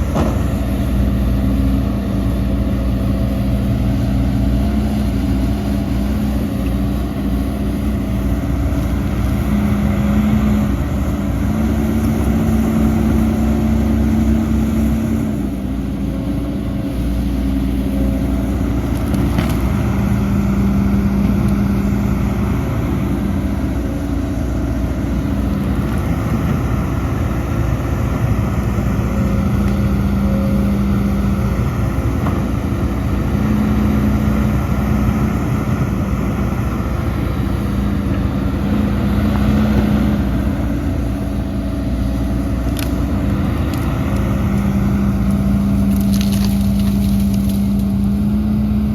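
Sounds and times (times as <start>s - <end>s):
heavy diesel machinery engine: 0.0s - 48.9s.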